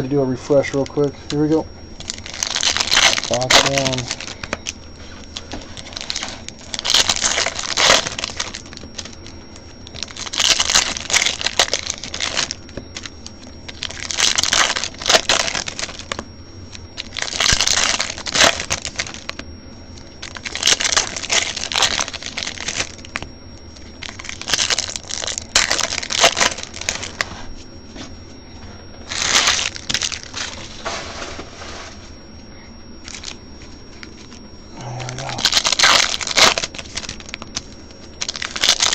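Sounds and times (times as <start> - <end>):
foil wrappers crinkling: 0.5 - 28.1, 29.0 - 32.1, 33.0 - 38.9.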